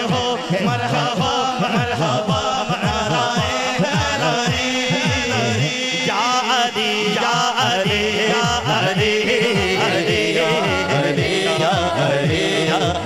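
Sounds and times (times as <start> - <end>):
man singing through microphone: 0.0 - 13.0.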